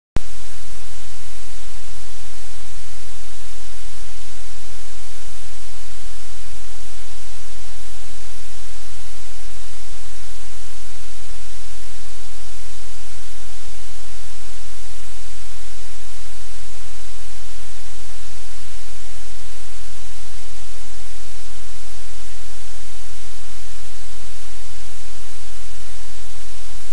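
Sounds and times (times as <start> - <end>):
static hiss: 0.2 - 26.9.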